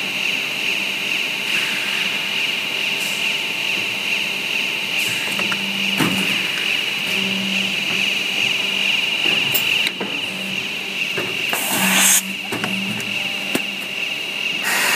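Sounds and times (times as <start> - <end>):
machine high whine: 0.0 - 14.9.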